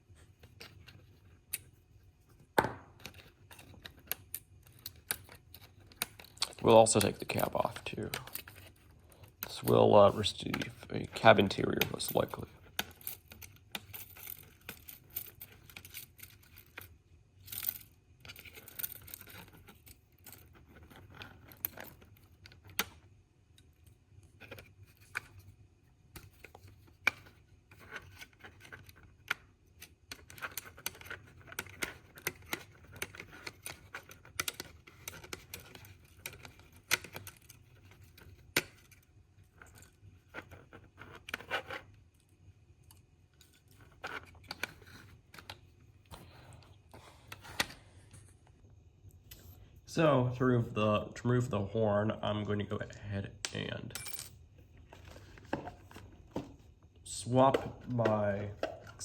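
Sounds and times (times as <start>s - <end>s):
plastic parts clicking and scraping: 0.2s - 48.3s, 54.6s - 59.0s.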